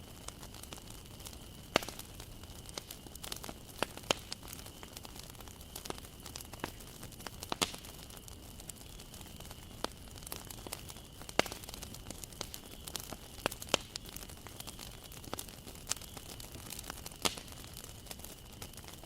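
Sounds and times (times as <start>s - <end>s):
low steady fire hiss: 0.0s - 19.0s
wood fire crackling: 0.0s - 19.0s.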